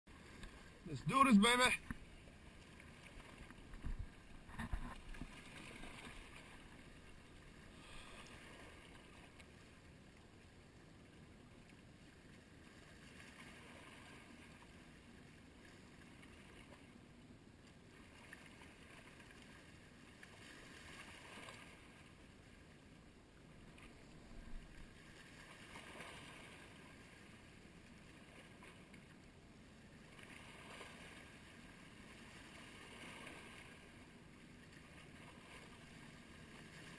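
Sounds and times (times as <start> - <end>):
small waves lapping on rocks: 0.1 - 36.9.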